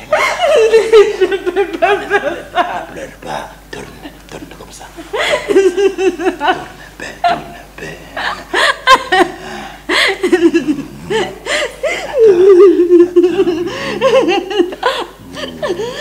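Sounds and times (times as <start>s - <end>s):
person laughing: 0.0s - 4.4s, 5.0s - 16.0s
long wavering vocal sound: 2.0s - 16.0s.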